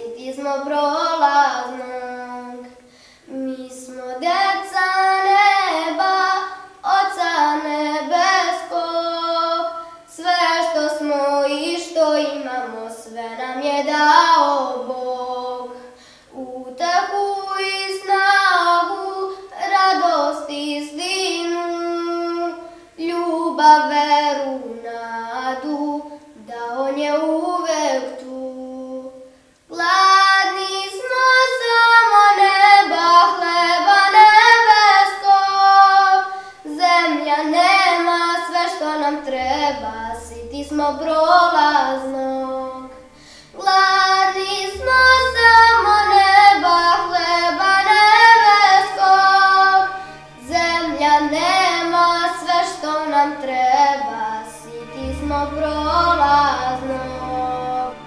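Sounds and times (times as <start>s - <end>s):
person singing unaccompanied: 0.0s - 58.0s.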